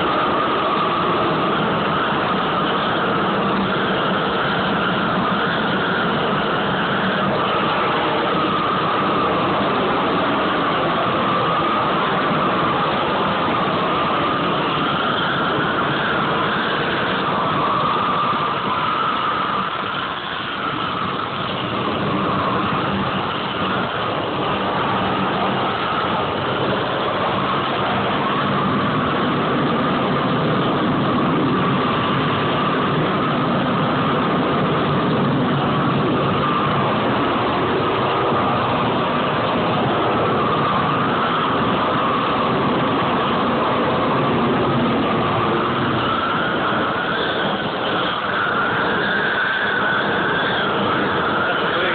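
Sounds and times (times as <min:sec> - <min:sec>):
gas burner flames rushing: 0:00.0 - 0:51.9.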